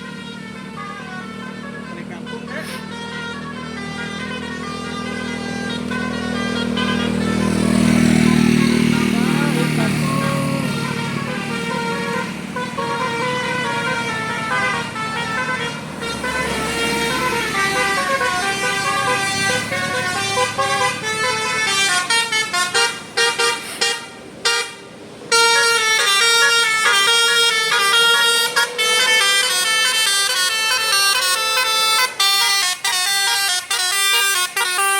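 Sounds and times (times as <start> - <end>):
bus horn playing a melody: 0.0 - 34.9.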